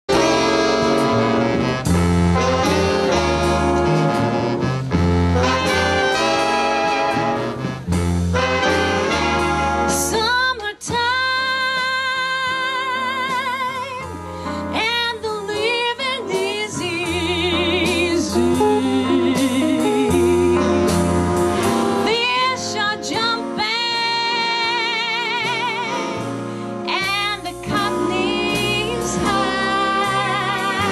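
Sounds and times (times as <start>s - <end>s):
swing band music with brass: 0.1s - 30.9s
walking bass: 0.1s - 30.9s.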